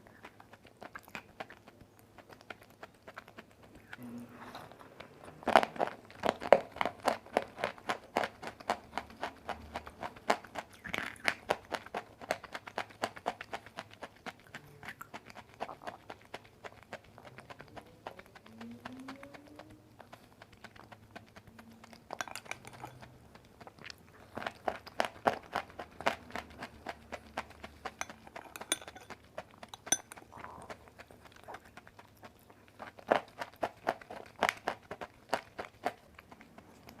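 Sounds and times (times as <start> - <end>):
chewing crunches: 0.0 - 37.0.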